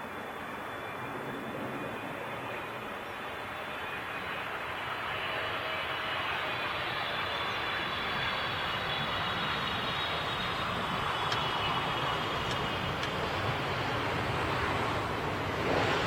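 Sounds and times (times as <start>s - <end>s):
faint high whine: 0.0s - 16.0s
jet engine rushing: 0.0s - 16.0s.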